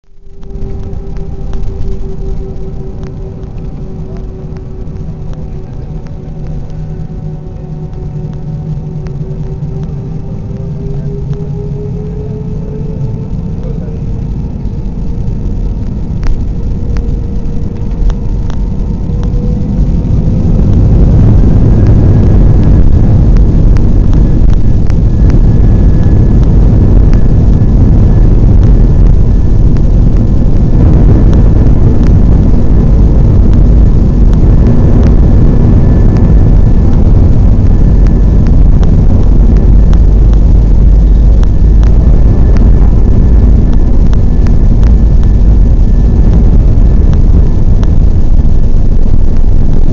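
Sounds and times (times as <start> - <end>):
thin high whine: 0.0 - 49.9
jet engines spooling up: 0.1 - 48.8.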